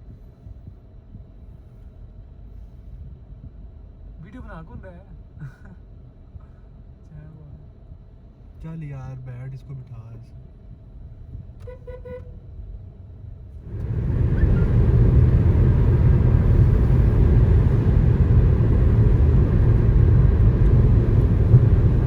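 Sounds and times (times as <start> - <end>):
car road and wind noise: 0.0 - 22.0.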